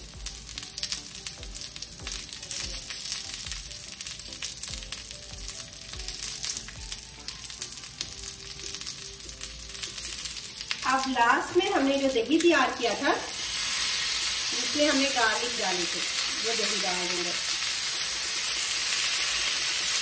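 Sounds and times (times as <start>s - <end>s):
meat sizzling on a grill plate: 0.0s - 20.0s.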